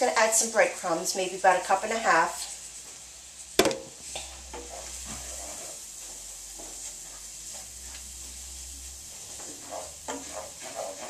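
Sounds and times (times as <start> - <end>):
food sizzling in a pan: 0.0 - 11.0
wooden spoon scraping a pan: 0.0 - 11.0.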